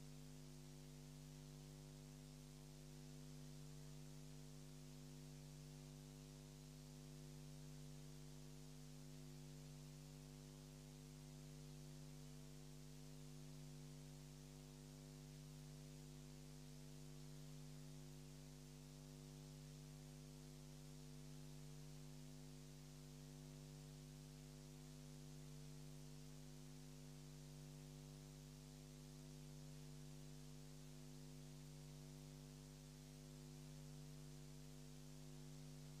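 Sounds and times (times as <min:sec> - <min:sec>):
faint electrical hum with hiss: 0:00.0 - 0:36.0.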